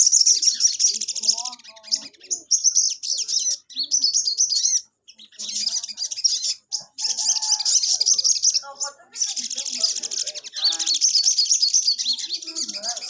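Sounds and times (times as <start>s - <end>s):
bird twittering: 0.0s - 13.0s.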